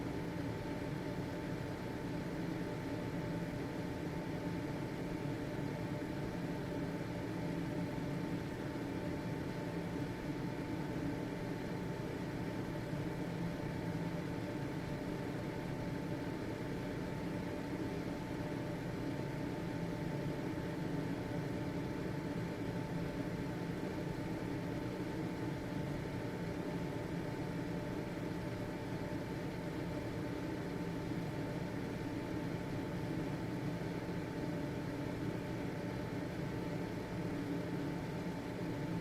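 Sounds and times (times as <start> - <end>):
ventilation fan whooshing hum: 0.0 - 39.0.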